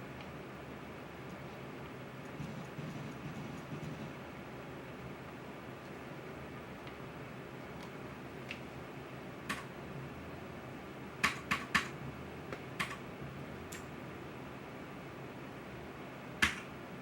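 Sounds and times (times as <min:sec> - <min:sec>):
cooling fans whooshing: 0:00.0 - 0:17.0.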